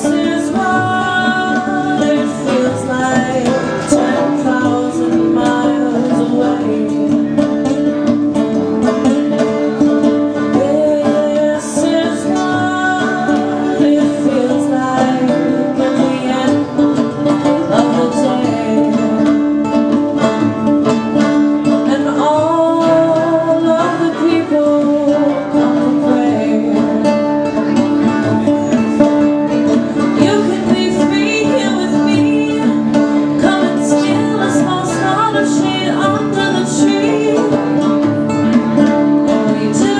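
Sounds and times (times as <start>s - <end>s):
woman singing: 0.0s - 20.4s, 21.2s - 28.8s, 29.6s - 39.9s
banjo: 0.0s - 39.9s
hand drums: 0.0s - 39.9s
strummed acoustic guitar: 0.0s - 39.9s.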